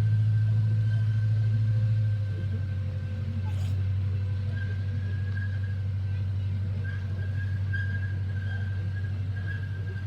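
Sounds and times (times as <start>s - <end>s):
train engine drone: 0.0s - 10.0s.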